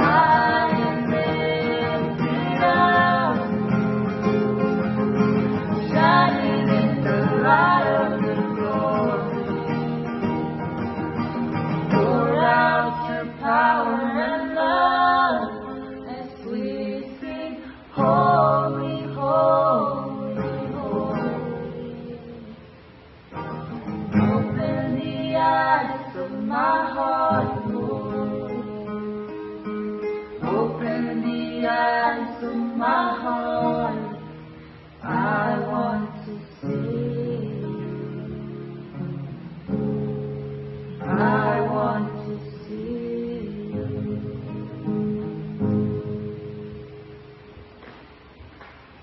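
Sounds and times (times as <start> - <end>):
group singing worship song: 0.0 - 22.7, 23.8 - 39.1, 41.0 - 45.0
acoustic guitar: 0.0 - 49.0.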